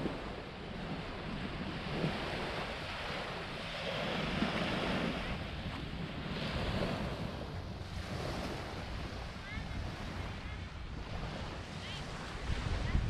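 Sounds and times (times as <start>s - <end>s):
small waves washing onto beach: 0.0s - 13.0s
wind rumbling on microphone: 0.0s - 13.0s.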